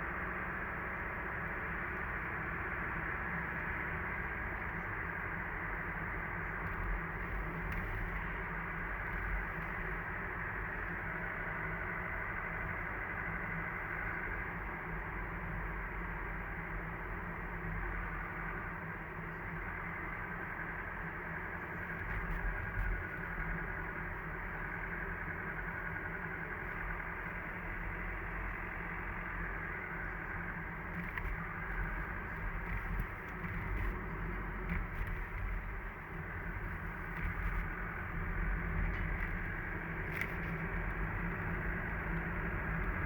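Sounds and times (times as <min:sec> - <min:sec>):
car engine low rumble: 0:00.0 - 0:43.0.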